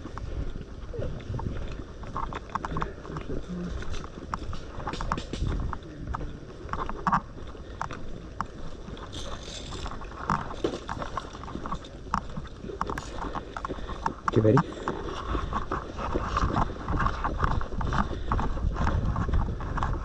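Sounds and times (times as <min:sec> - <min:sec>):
gear handling clicks and knocks: 0:01.3 - 0:20.0.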